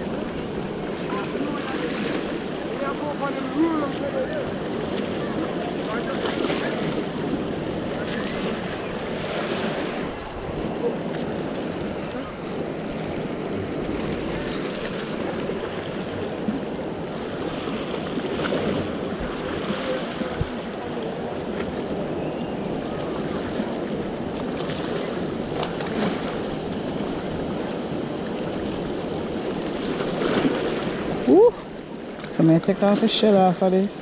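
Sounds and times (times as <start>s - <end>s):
sea surf washing against shore: 0.0s - 34.0s.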